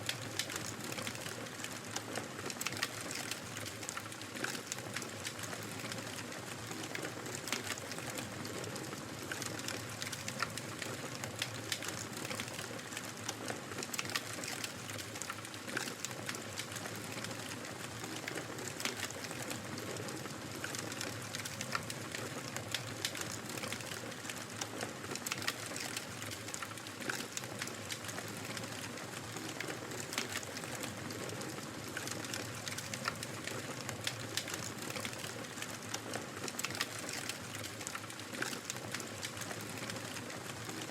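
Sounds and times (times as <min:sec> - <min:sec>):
wood fire crackling: 0:00.1 - 0:40.9.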